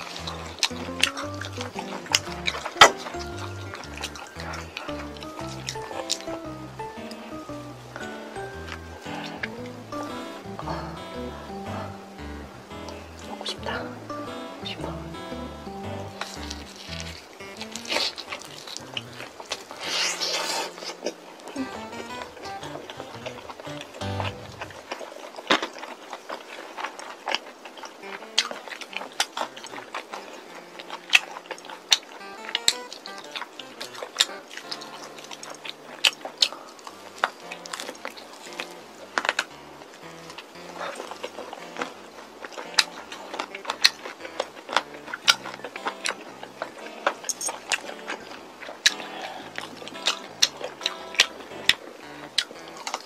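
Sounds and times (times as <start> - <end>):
fried chicken crunching: 0.0 - 14.3, 15.4 - 53.0.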